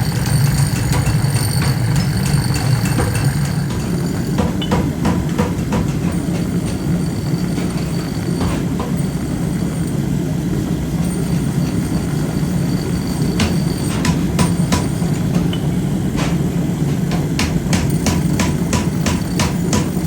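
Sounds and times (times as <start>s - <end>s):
sharp metallic knocks: 0.0s - 10.0s, 11.0s - 20.0s
factory machinery humming: 0.0s - 20.0s.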